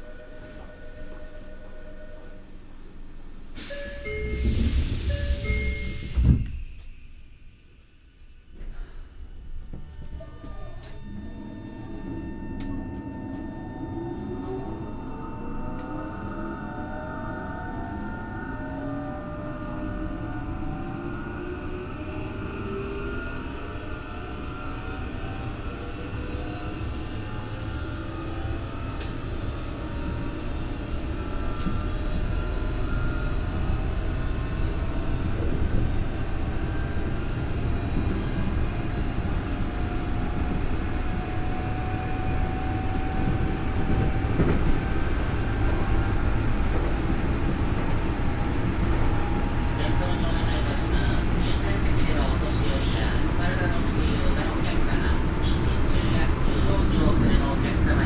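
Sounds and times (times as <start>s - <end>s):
wheel and rail rumble: 2.7s - 58.0s.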